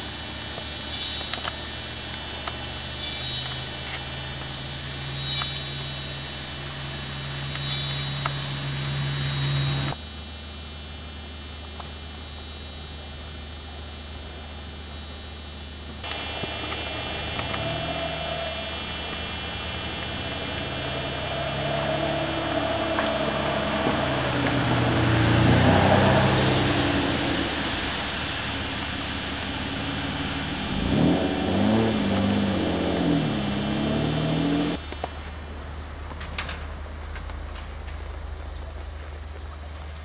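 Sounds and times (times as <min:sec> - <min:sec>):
helicopter turbine whine: 0:00.0 - 0:40.0.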